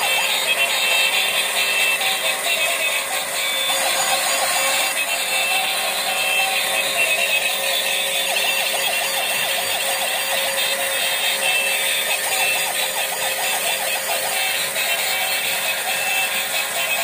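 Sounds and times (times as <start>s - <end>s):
toy electronic siren: 0.0s - 17.0s.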